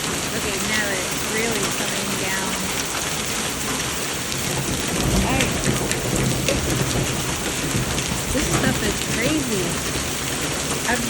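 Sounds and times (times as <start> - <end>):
deep thunder rumble: 0.0 - 11.0
hail and rain pelting: 0.0 - 11.0
hailstones clicking: 0.0 - 11.0.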